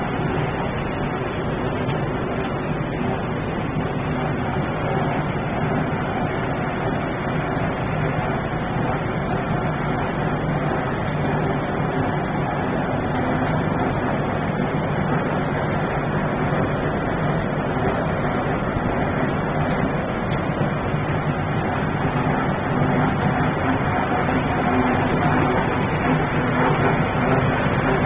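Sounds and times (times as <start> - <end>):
loud mechanical dryer noise: 0.0 - 28.0
low hum: 0.0 - 28.0.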